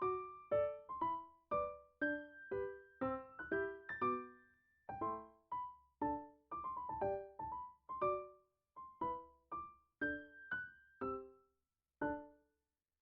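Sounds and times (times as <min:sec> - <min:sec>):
gentle piano music: 0:00.0 - 0:12.5.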